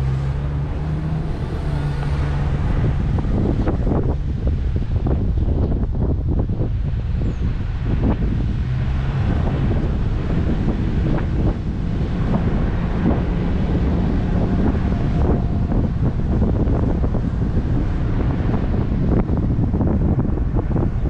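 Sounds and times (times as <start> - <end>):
road noise rumble: 0.0 - 21.0
wind buffeting microphone: 0.0 - 21.0.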